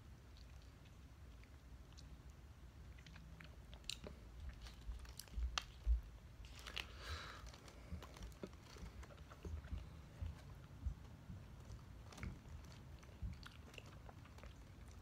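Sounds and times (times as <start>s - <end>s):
wet chewing with clicks: 0.2s - 15.0s.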